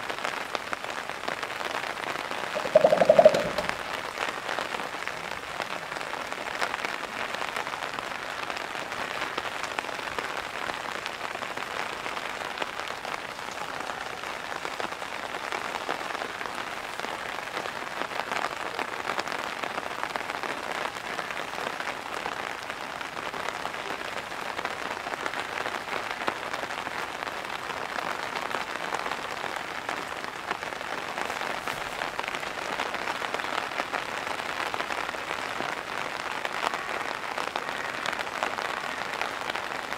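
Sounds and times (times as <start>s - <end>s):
heavy pouring rain: 0.0s - 39.9s.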